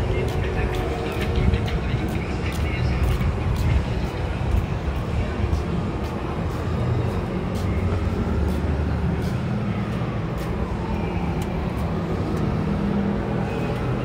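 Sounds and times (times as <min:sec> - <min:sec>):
city traffic rumble: 0:00.0 - 0:14.0
passing vehicles: 0:00.0 - 0:14.0.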